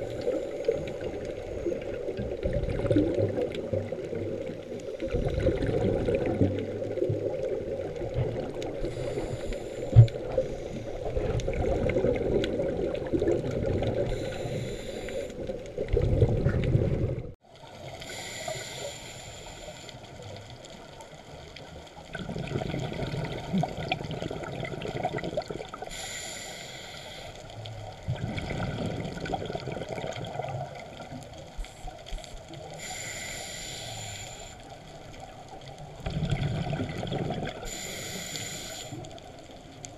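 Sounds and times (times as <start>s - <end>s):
muffled underwater wash: 0.0s - 39.9s
scuba regulator bubbles: 0.0s - 39.9s.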